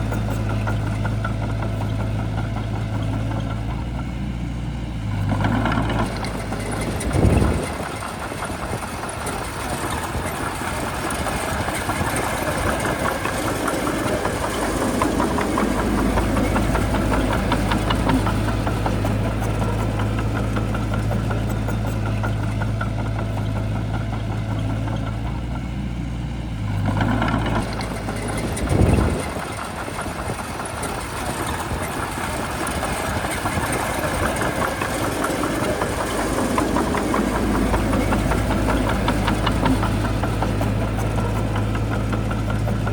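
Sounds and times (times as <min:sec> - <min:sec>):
bulldozer diesel engine knocking: 0:00.0 - 0:42.9
engine surges: 0:00.0 - 0:42.9.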